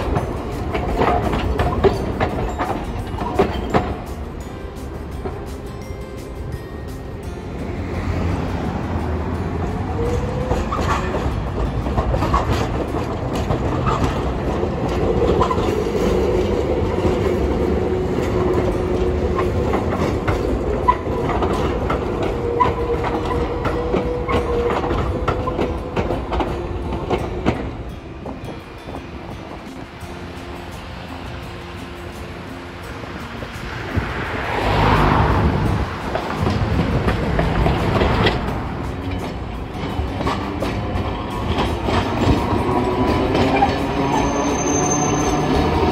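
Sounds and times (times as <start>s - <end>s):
tram wheels clicking over rail joints: 0.0s - 45.9s
tram whine and rumble: 0.0s - 45.9s.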